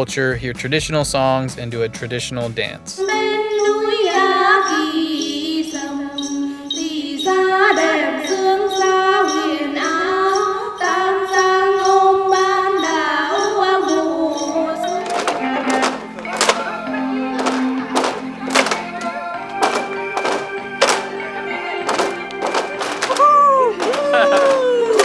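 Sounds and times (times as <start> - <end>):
small bells jingling: 3.4 - 25.0.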